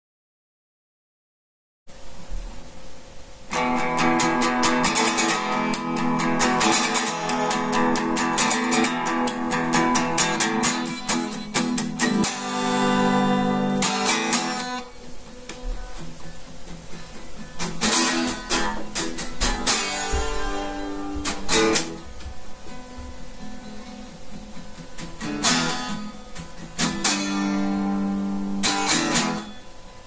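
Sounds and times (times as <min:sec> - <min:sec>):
guitar strumming chords: 0:02.2 - 0:30.0.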